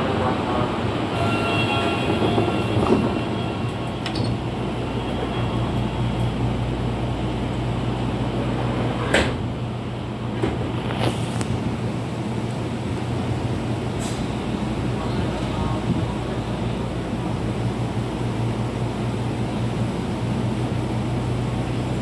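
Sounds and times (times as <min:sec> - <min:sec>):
train running rumble and hum: 0:00.0 - 0:22.0.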